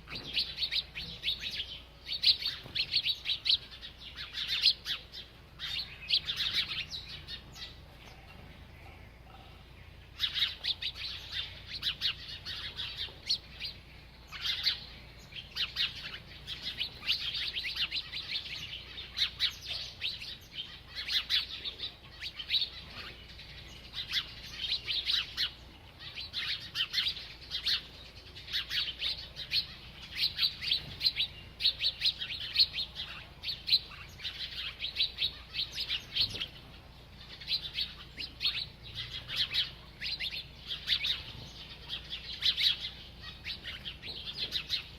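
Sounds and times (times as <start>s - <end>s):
small bird chirping rapidly: 0.0s - 44.9s.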